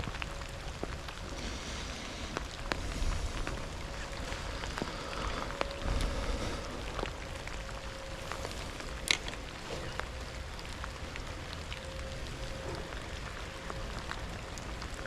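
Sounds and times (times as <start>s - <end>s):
rain falling: 0.0s - 15.0s
raindrops ticking: 0.0s - 15.0s.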